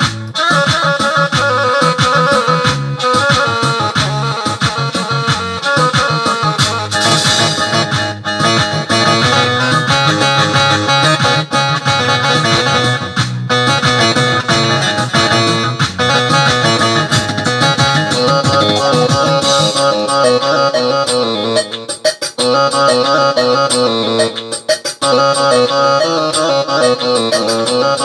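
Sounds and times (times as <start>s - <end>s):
plucked-string instrument melody: 0.0s - 28.0s.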